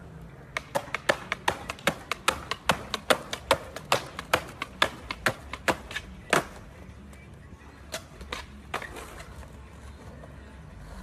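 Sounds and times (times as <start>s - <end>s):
skateboard clacking on concrete: 0.4s - 10.4s.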